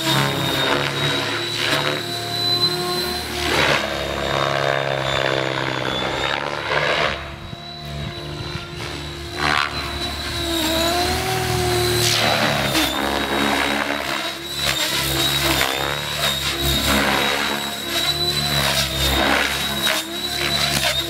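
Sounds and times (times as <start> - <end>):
helicopter rotor blade whooshes: 0.0 - 21.0
high motor whine: 0.0 - 21.0.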